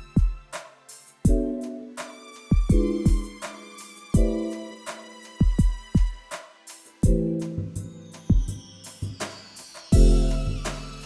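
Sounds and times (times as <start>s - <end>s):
background music with drum hits: 0.0s - 11.0s.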